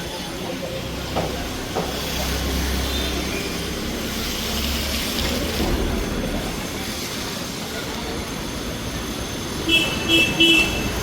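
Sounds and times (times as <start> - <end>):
train passing with rumble: 0.2 - 11.0.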